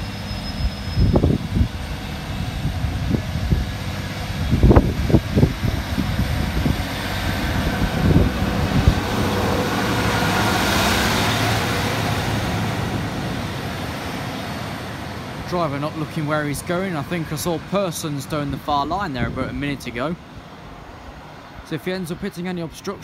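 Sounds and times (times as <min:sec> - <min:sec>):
train passing rumble: 0:00.0 - 0:23.0.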